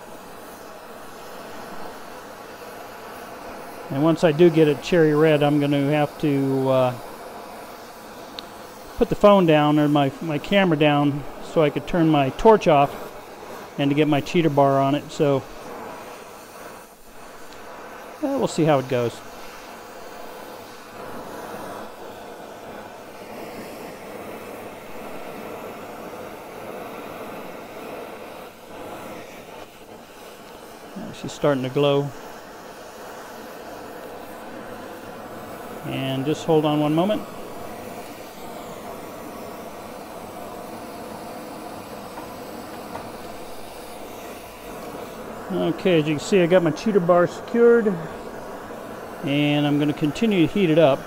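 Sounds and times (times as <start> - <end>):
gas torch hissing: 0.0 - 51.0.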